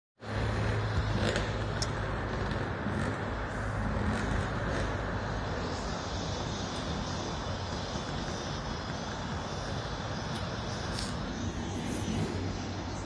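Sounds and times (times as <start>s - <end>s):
motor vehicle drone and hiss: 0.2s - 13.0s.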